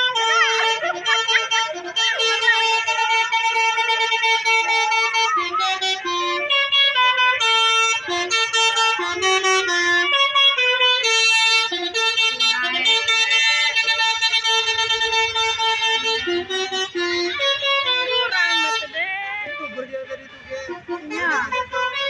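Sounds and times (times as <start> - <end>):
multi-tone air horn tune: 0.0 - 22.0.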